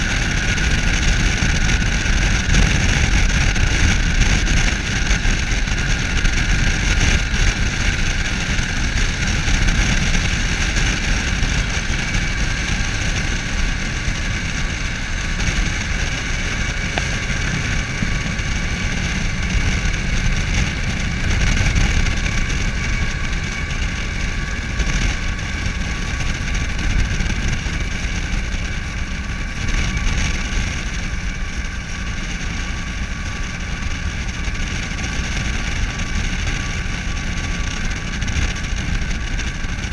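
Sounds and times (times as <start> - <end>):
road and wind rumble: 0.0 - 39.9.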